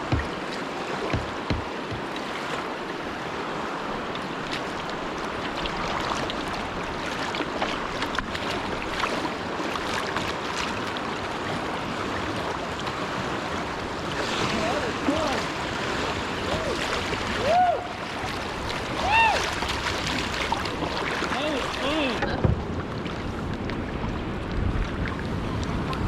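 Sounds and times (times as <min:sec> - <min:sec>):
river water rushing and splashing: 0:00.0 - 0:26.0.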